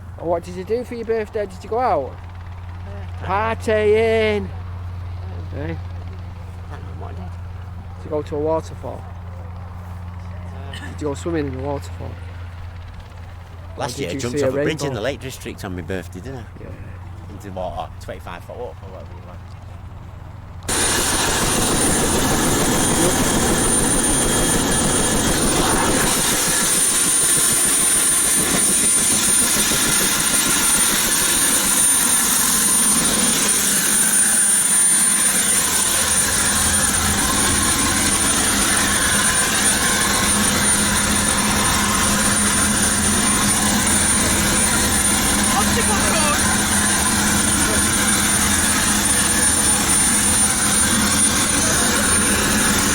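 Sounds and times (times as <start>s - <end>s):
helicopter engine and rotor: 0.0s - 52.9s.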